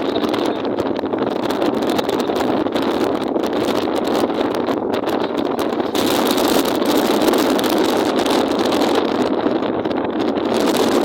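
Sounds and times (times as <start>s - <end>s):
wind rushing: 0.0s - 11.0s.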